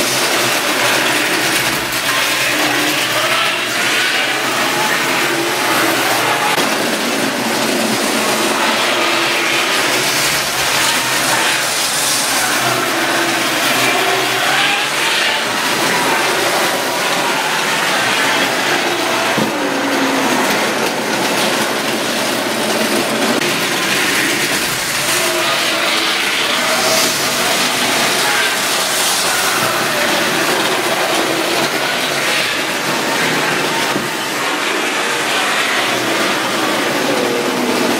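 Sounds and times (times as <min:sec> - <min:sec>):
model train motors whirring: 0:00.0 - 0:37.9.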